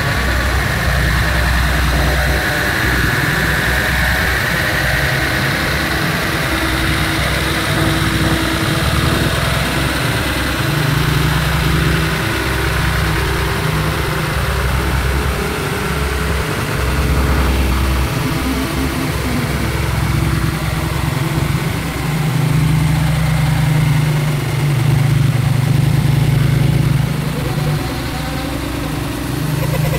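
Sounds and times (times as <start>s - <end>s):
truck engine rumbling: 0.0s - 29.9s.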